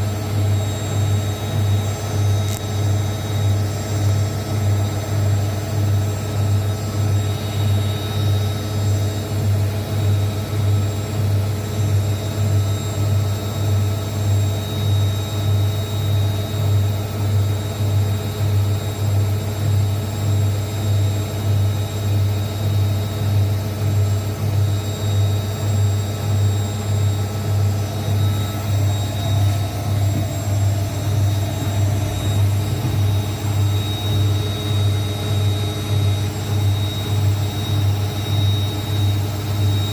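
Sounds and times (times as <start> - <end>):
high motor whine: 0.0 - 39.9
washing machine spinning hum: 0.0 - 39.9.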